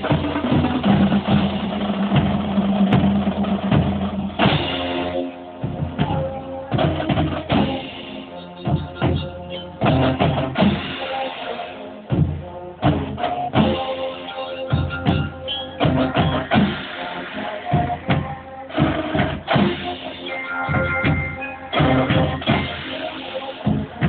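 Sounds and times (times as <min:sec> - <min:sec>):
brass instruments: 0:00.0 - 0:24.0
drum strikes: 0:00.0 - 0:24.0.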